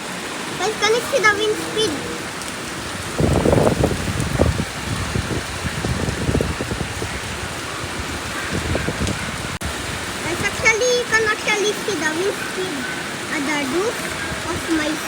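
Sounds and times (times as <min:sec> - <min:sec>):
heavy rain hissing: 0:00.0 - 0:15.0
wind gusts on microphone: 0:00.0 - 0:15.0.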